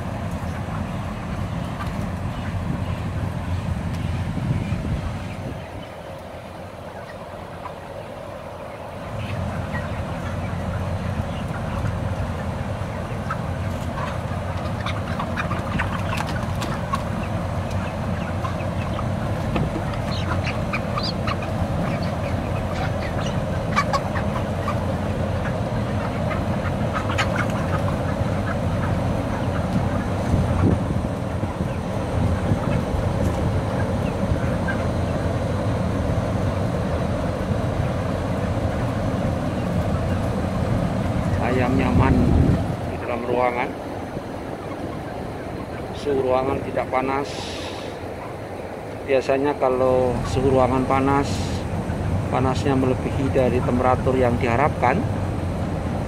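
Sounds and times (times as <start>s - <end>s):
chickens clucking: 0.0s - 56.0s
exhaust fans droning: 0.0s - 56.0s.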